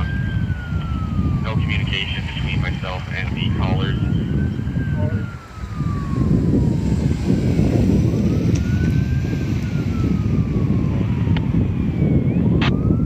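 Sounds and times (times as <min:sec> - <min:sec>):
fire engine rumble and road noise: 0:00.0 - 0:13.0
siren wailing: 0:00.0 - 0:13.0.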